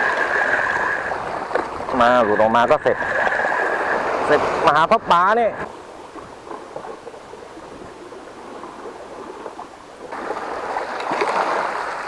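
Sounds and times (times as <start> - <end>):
sea water washing around rocks: 0.0 - 12.0.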